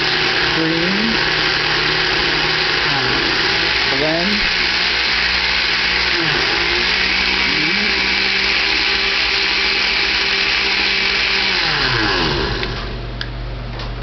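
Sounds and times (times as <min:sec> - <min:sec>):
blender motor running: 0:00.0 - 0:13.1.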